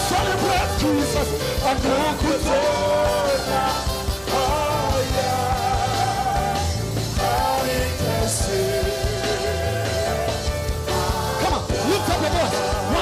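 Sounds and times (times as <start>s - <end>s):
band playing: 0.0s - 13.0s
congregation singing: 0.0s - 13.0s
drum beat: 0.0s - 13.0s.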